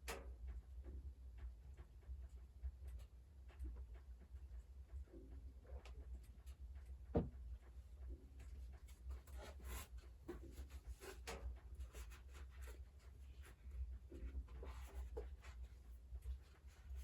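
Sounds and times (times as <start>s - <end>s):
light clicks and crackles: 0.0s - 17.0s.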